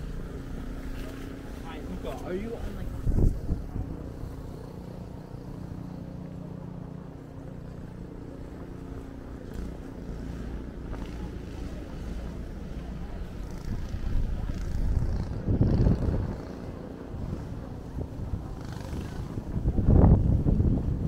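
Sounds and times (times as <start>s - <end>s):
vehicle engine drone: 0.0s - 21.0s.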